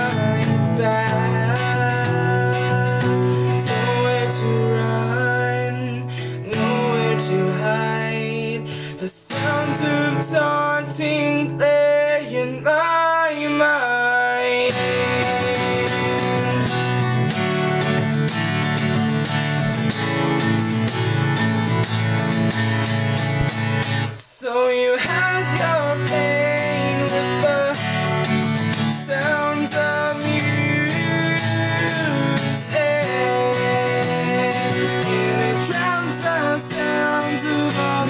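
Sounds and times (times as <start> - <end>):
young man singing: 0.0 - 19.4, 24.0 - 38.0
acoustic guitar strumming: 0.0 - 38.0.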